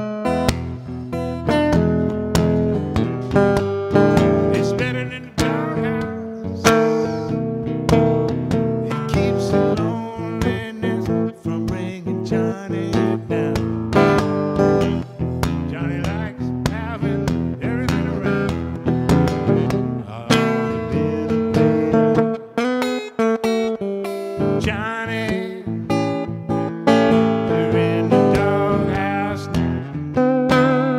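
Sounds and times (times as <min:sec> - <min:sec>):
acoustic guitar strumming blues: 0:00.0 - 0:30.9.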